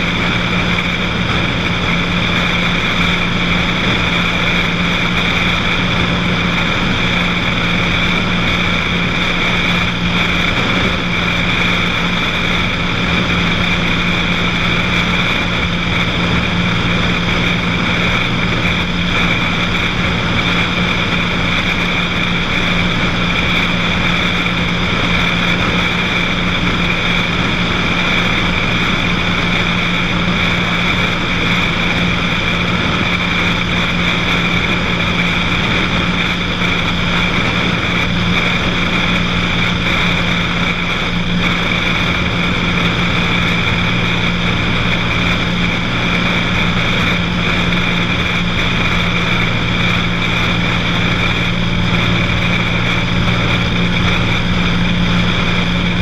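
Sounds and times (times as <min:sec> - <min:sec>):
airplane engine droning in cabin: 0:00.0 - 0:56.0.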